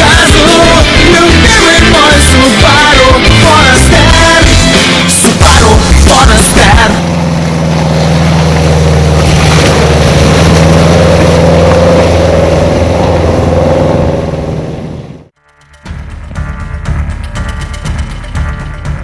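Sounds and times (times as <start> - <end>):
car engine running hard: 0.0 - 15.4.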